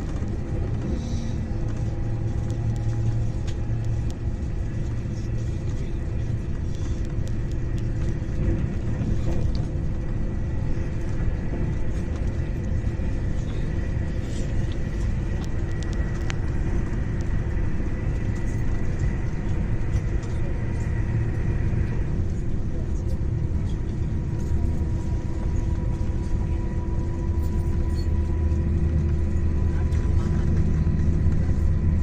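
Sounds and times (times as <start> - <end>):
train low rumble: 0.0 - 32.0.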